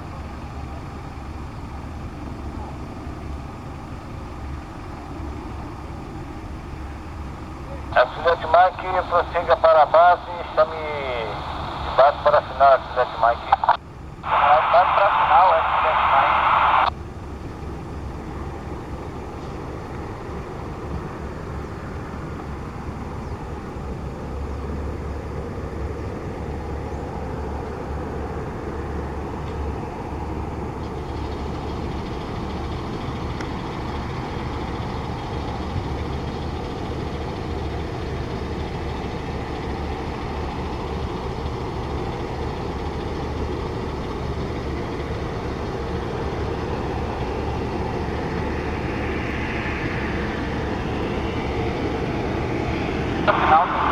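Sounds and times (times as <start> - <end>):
aircraft engine noise: 0.0 - 53.9.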